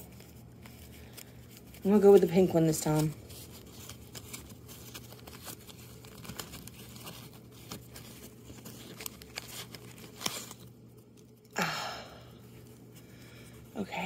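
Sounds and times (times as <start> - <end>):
fabric pouch rustling: 0.0 - 11.5.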